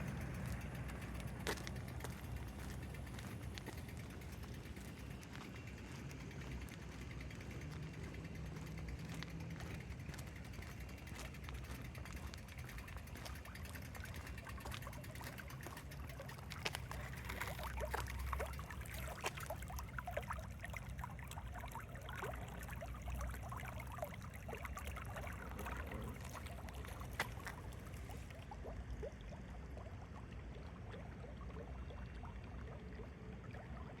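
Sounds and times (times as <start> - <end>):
brook trickling and burbling: 0.0 - 34.0.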